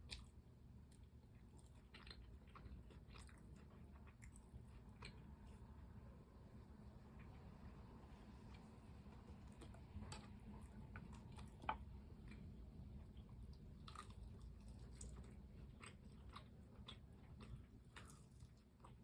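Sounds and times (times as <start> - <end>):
chewing crispy chicken: 0.0 - 5.9, 8.4 - 19.0.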